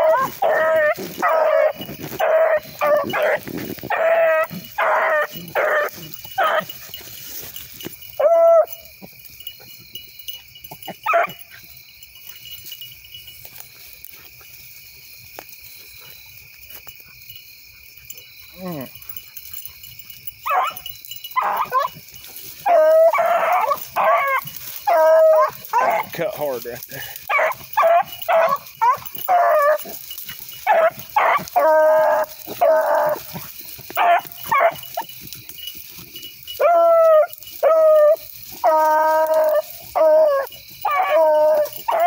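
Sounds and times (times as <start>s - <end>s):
hounds baying: 0.0s - 42.0s.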